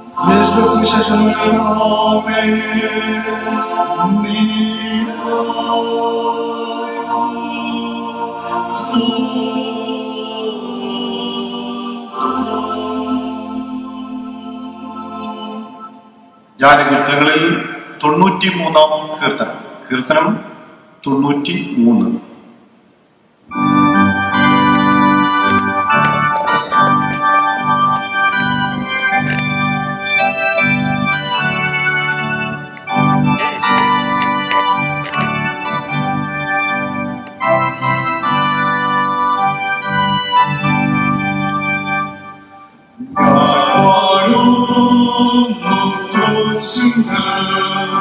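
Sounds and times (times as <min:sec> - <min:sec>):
electronic organ chords: 0:00.0 - 0:21.0, 0:23.2 - 0:48.0.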